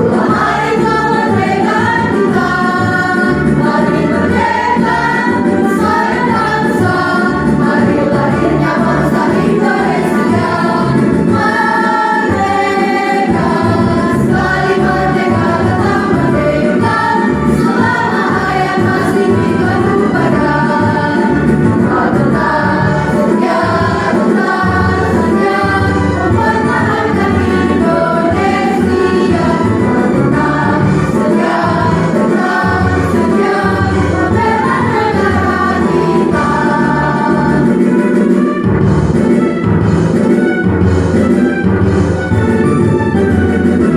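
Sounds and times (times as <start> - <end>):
choir singing in parts: 0.0 - 38.5
low musical backing: 0.0 - 43.9.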